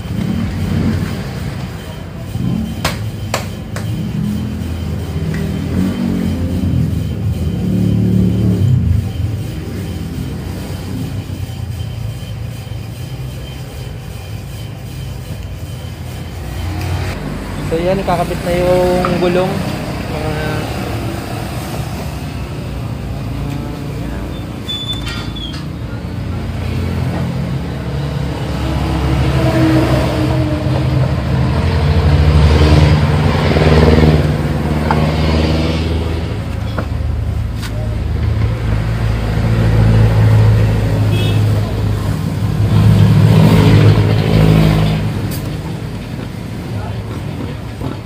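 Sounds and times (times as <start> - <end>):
vehicle engines passing: 0.0 - 48.0.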